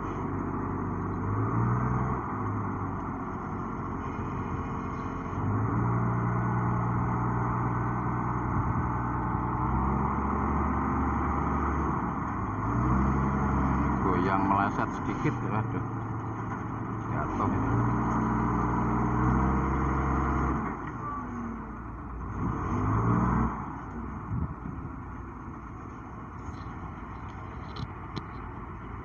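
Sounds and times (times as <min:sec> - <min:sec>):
heavy diesel engine under load: 0:00.0 - 0:29.0.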